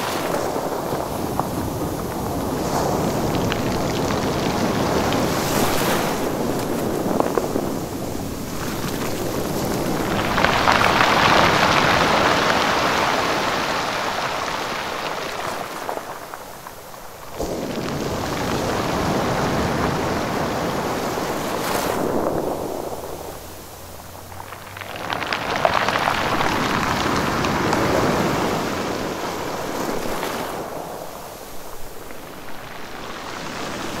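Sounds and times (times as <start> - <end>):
wave breaking on rocky beach: 0.0 - 34.0.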